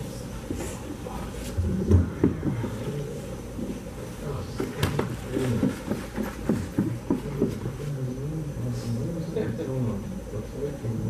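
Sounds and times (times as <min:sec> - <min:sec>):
muffled voices murmuring: 0:00.0 - 0:11.0.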